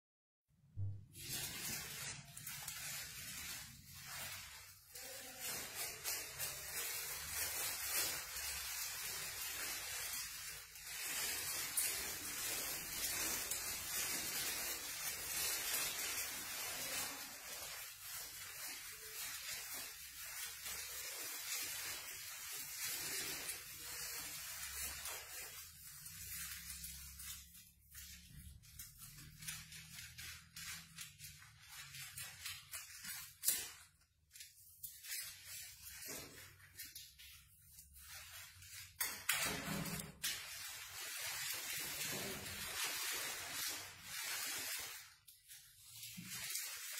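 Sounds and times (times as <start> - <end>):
plastic gown crinkling: 0.8 - 46.9.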